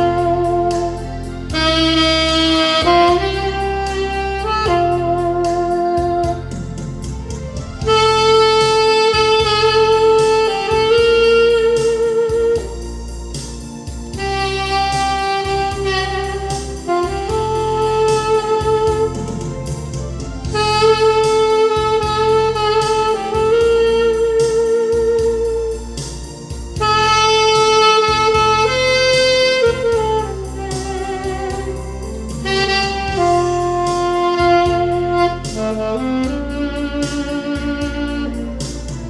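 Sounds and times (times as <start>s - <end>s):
alto saxophone slow melody: 0.0s - 39.0s
backing accompaniment with bass line: 0.0s - 39.0s.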